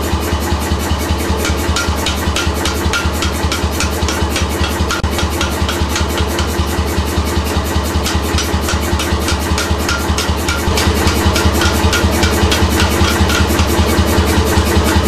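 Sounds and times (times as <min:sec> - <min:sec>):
motor hum: 0:00.0 - 0:15.0
power hammer striking: 0:01.3 - 0:15.0.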